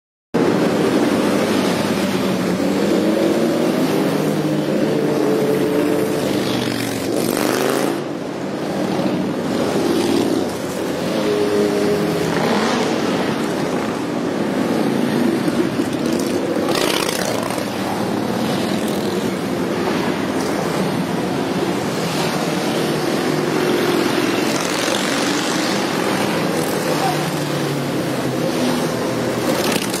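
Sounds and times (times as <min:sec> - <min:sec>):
group of motorcycles riding: 0:00.4 - 0:30.0.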